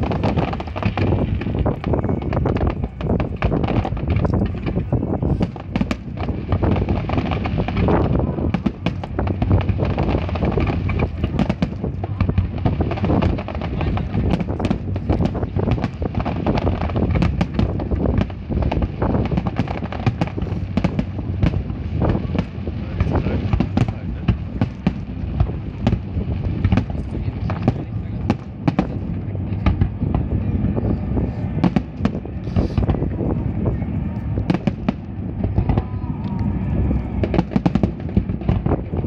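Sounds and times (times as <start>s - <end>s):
fireworks cracks and bangs: 0.0s - 39.0s.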